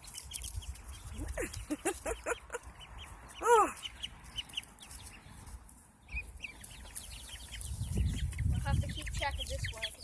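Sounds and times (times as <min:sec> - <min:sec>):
chicks and ducklings peeping: 0:00.0 - 0:10.0.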